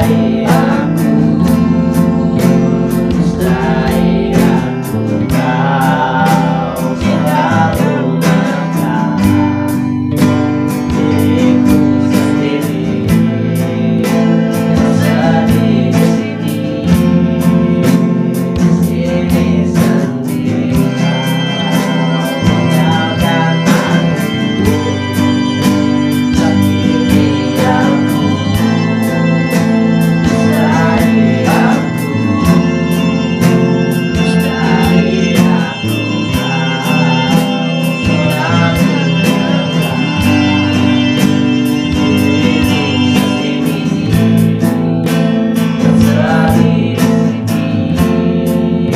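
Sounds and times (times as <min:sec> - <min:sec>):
acoustic guitar strumming: 0:00.0 - 0:48.9
man singing: 0:00.0 - 0:48.9.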